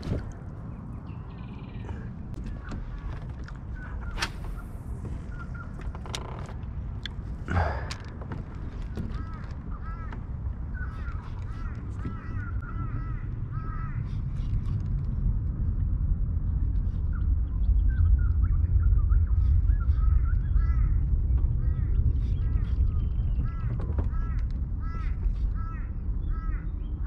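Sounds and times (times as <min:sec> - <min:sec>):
birds calling: 0:00.0 - 0:14.8, 0:16.9 - 0:27.0
low rumble: 0:00.0 - 0:27.0.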